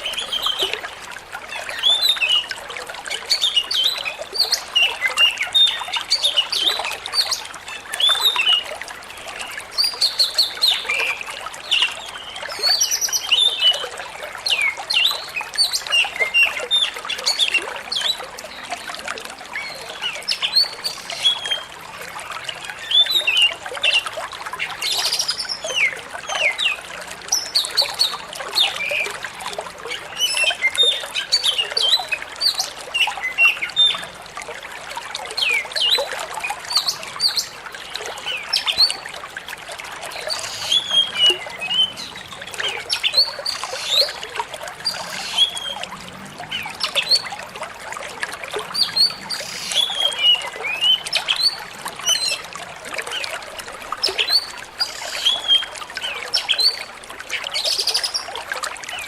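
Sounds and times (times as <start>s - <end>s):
trickling water: 0.0s - 59.0s.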